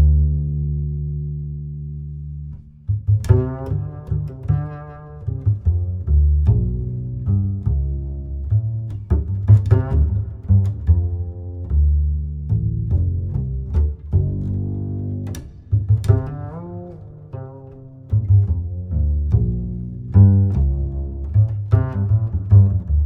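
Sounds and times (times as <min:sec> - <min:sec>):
plucked bass line music: 0:00.0 - 0:23.0.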